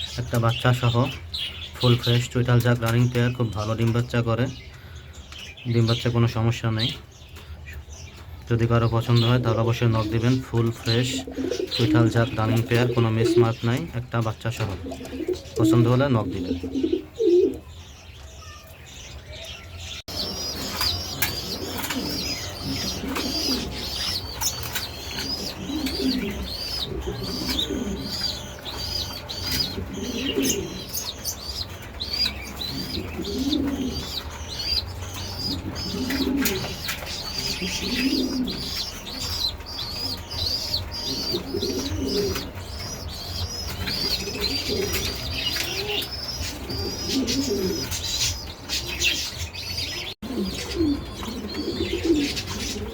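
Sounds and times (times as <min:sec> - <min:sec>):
pigeons cooing: 0:00.0 - 0:18.0, 0:19.8 - 0:52.9
small birds chirping: 0:00.0 - 0:52.9.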